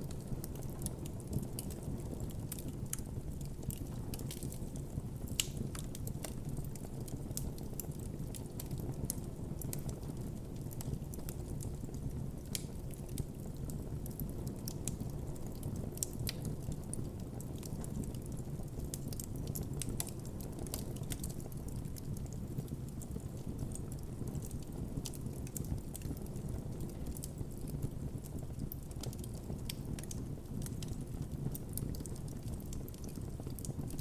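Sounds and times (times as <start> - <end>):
burning wood crackling and popping: 0.0 - 34.0
low rumble of flames: 0.0 - 34.0.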